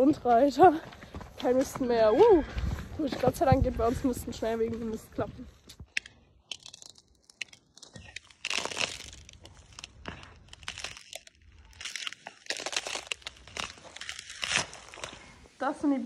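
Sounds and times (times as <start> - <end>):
boots crunching through thin ice: 0.0 - 5.8, 6.8 - 16.0.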